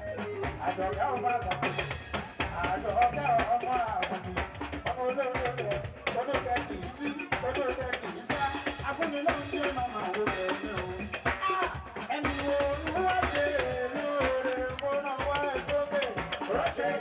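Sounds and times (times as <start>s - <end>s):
music with drum kit: 0.0s - 17.0s.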